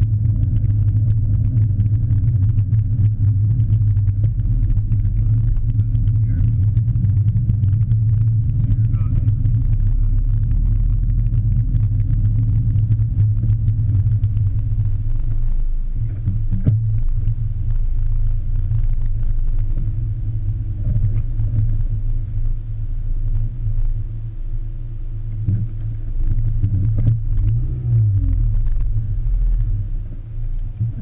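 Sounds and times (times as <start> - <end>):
muffled car rumble: 0.0 - 31.0.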